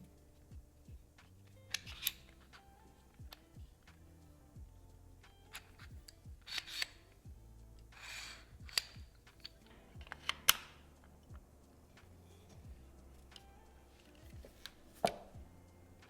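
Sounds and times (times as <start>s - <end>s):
background music with kick drum: 0.0s - 16.0s.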